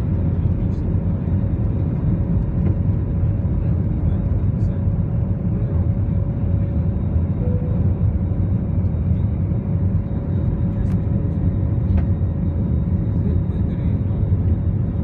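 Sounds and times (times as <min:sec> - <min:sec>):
jet engines roaring in cabin: 0:00.0 - 0:15.0.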